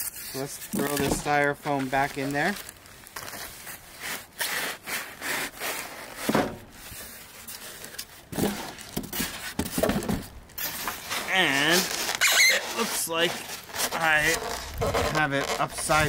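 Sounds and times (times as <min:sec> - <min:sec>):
styrofoam scraping against cardboard: 0:00.0 - 0:16.0.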